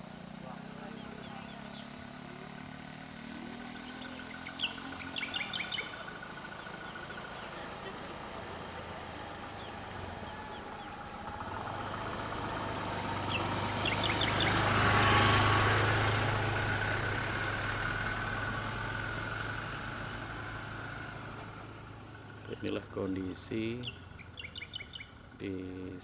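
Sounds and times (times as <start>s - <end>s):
vehicle engine passing by: 0.0s - 26.0s.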